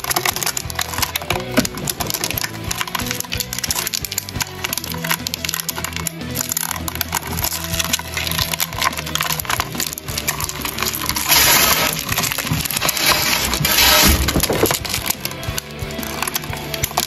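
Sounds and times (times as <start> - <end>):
beetles scratching on wood: 0.0 - 17.0.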